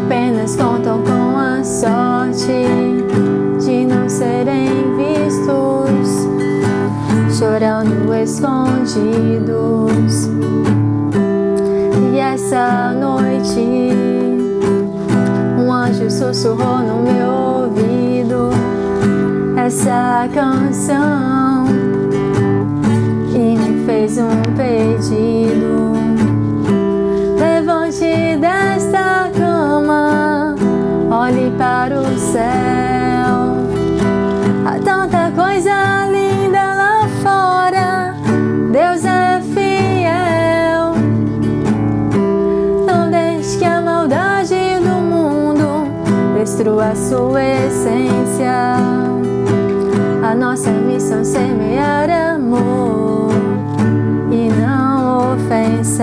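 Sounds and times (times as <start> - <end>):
woman singing gospel song: 0.0 - 10.5, 11.8 - 22.6, 23.2 - 41.4, 42.8 - 56.0
acoustic guitar strumming: 0.0 - 56.0.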